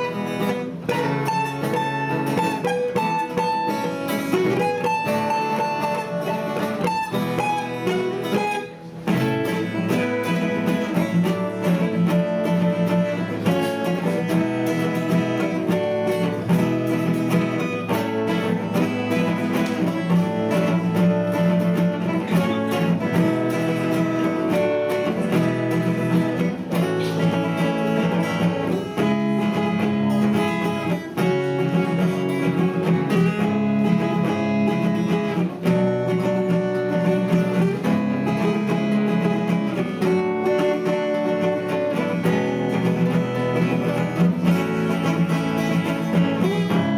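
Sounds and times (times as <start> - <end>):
acoustic guitar duet: 0.0 - 46.9.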